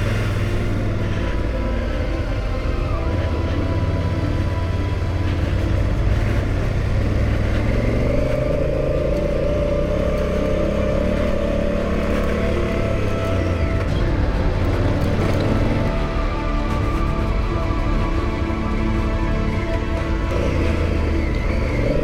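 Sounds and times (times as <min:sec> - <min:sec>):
motorcycle engine running: 0:00.0 - 0:22.0
road and wind noise: 0:00.0 - 0:22.0.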